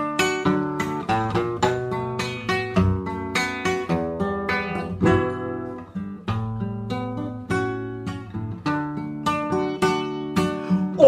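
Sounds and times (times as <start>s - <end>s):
classical guitar playing: 0.0s - 11.0s.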